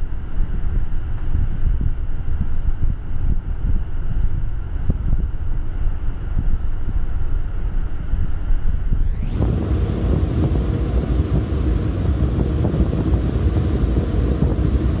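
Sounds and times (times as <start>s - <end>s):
wind buffeting microphone: 0.0s - 7.4s, 8.9s - 15.0s.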